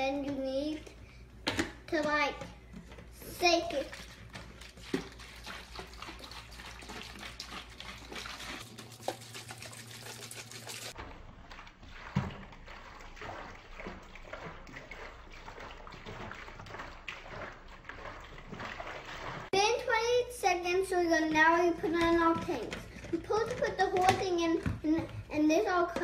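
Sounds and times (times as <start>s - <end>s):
water sloshing in plastic bottles: 0.0s - 26.0s.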